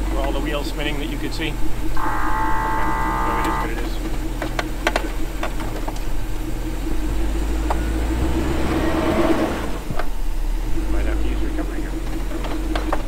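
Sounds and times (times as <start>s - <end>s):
truck engine running under load: 0.0s - 13.0s.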